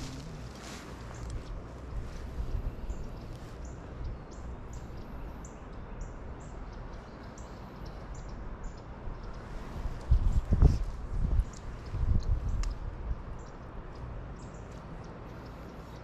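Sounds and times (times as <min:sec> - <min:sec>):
low wind rumble: 0:00.0 - 0:16.0
small bird chirping: 0:00.0 - 0:16.0.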